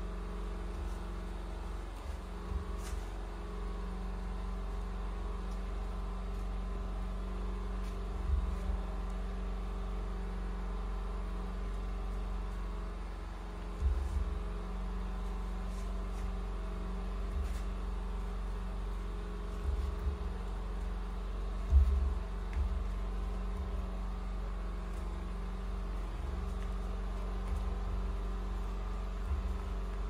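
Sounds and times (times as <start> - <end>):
low mechanical hum: 0.0 - 30.0
soft low bumps: 0.0 - 30.0.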